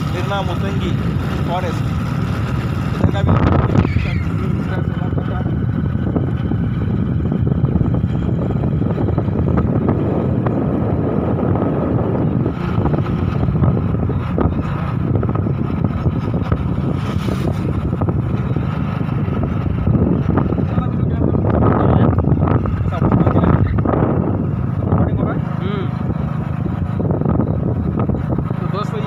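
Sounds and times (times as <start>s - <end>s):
motorbike engine and road noise: 0.0s - 29.0s
wind rush on microphone: 0.0s - 29.0s.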